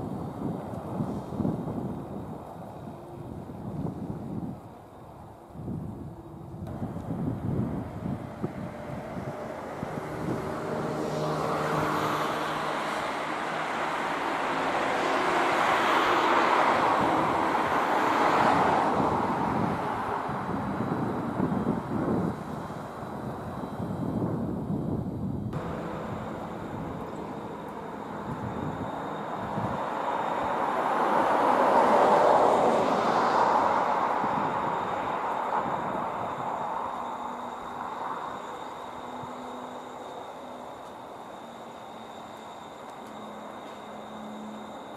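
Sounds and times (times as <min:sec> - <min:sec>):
passing vehicle rushing: 0:06.1 - 0:24.6, 0:25.4 - 0:44.9.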